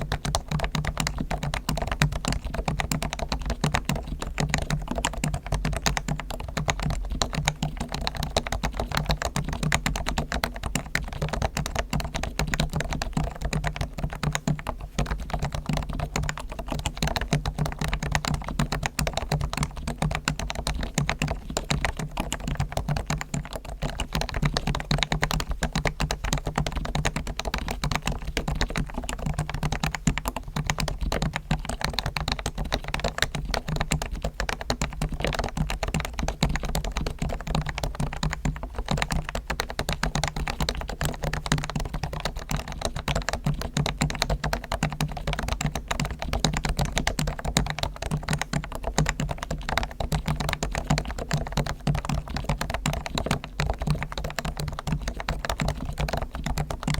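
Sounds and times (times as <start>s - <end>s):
fast muted keyboard typing: 0.0s - 56.9s.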